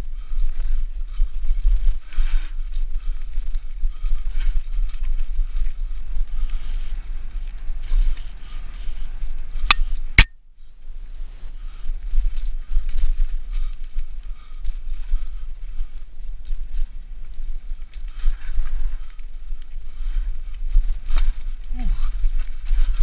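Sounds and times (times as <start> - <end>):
bike tyre and chain rattle: 0.0 - 10.3, 11.5 - 23.0
wind rumble on microphone: 0.0 - 23.0.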